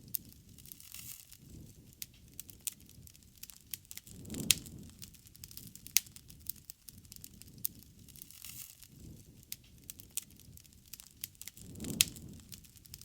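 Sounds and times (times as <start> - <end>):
low rush of flame: 0.0 - 13.0
wood crackling and popping: 0.0 - 13.0.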